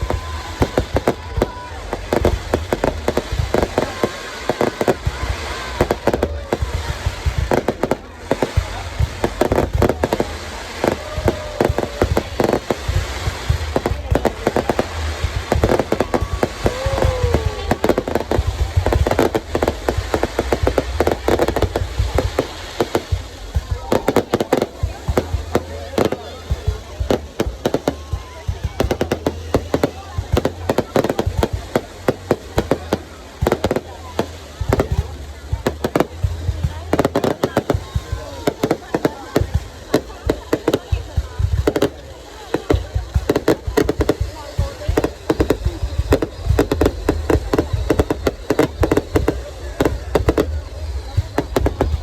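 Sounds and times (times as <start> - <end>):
continuous low rumble: 0.0 - 52.0
fireworks bangs and cracks: 0.0 - 52.0.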